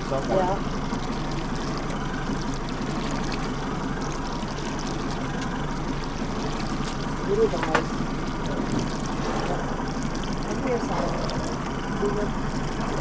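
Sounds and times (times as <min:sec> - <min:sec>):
boat engine idling: 0:00.0 - 0:13.0
water lapping against hull: 0:00.0 - 0:13.0.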